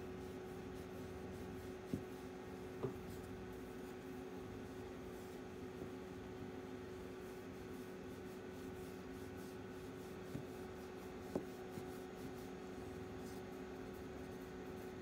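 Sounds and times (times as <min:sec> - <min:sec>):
steady electrical hum: 0:00.0 - 0:15.0
fingers scratching cat fur: 0:00.2 - 0:15.0.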